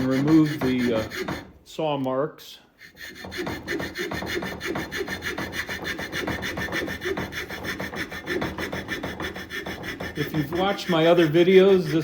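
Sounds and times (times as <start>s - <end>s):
hand saw cutting wood: 0.0s - 1.6s, 2.8s - 12.0s.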